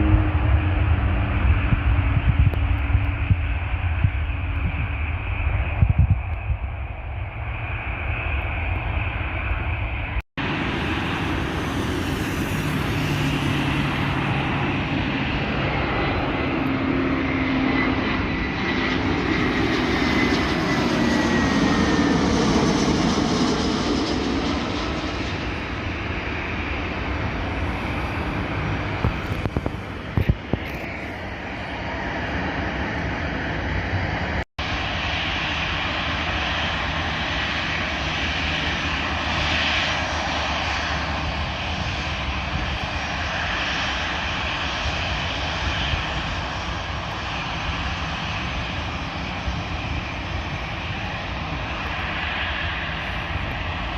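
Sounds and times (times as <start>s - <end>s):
airliner engines passing: 0.0s - 53.9s.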